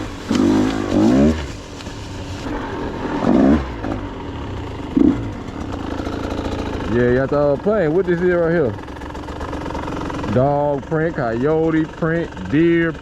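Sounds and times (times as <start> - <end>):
dirt bike engine idling: 0.0 - 13.0
engine throttle blips: 0.0 - 13.0.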